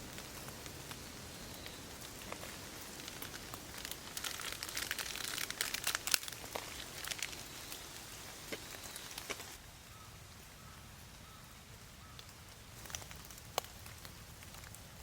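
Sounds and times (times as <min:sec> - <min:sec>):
rain patter: 0:00.0 - 0:15.0
raindrops ticking on surfaces: 0:00.0 - 0:15.0.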